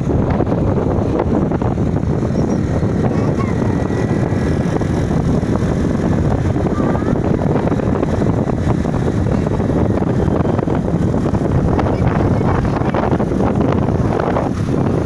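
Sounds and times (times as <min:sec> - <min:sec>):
loud low rumbling: 0:00.0 - 0:15.0.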